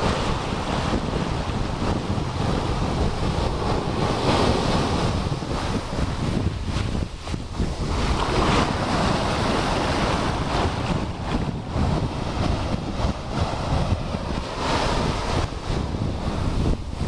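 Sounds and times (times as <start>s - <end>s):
surf washing over sand: 0.0s - 17.0s
wind rumbling on microphone: 0.0s - 17.0s.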